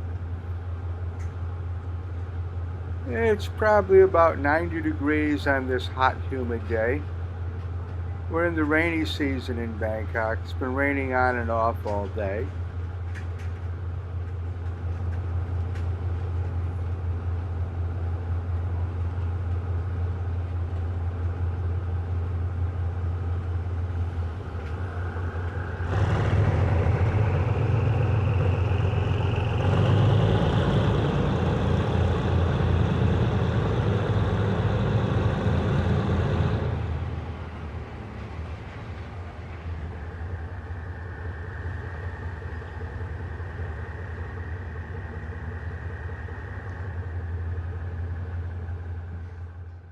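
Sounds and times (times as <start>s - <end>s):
diesel train engine: 0.0s - 49.9s.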